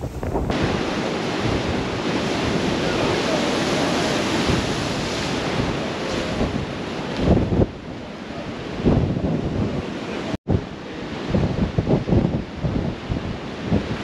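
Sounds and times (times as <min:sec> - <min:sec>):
storm waves crashing: 0:00.0 - 0:14.0
wind buffeting microphone: 0:00.0 - 0:14.0.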